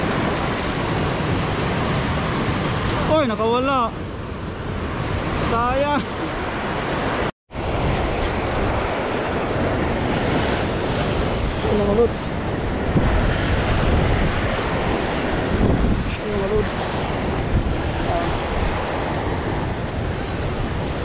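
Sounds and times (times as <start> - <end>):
surf breaking over rocks: 0.0 - 21.0
wind buffeting microphone: 0.0 - 21.0.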